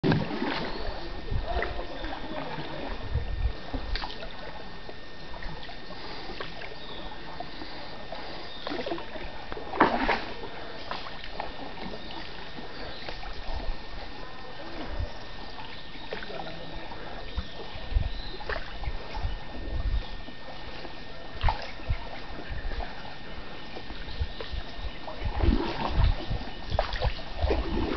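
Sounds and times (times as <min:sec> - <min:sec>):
paddle splashing in water: 0:00.0 - 0:04.7, 0:05.3 - 0:27.9.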